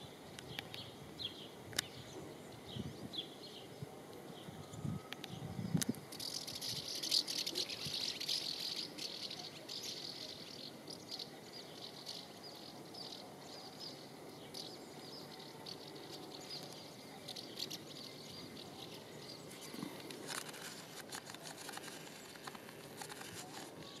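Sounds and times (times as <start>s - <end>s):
swallows twittering: 0.0s - 24.0s.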